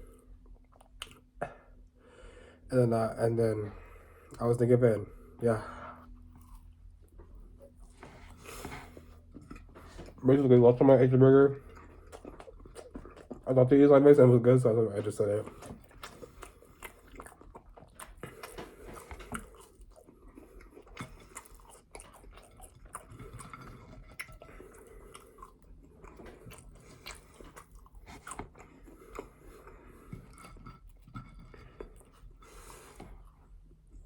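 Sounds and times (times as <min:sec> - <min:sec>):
person chewing food: 0:00.0 - 0:01.9, 0:05.9 - 0:34.0.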